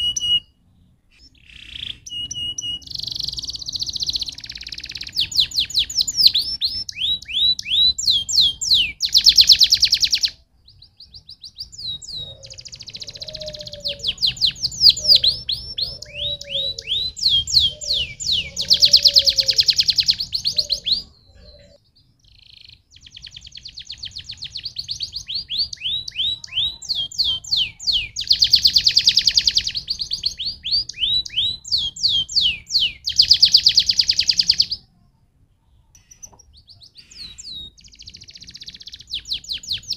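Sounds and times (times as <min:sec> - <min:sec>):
canary singing with trills: 0:00.0 - 0:34.9, 0:35.8 - 0:39.9.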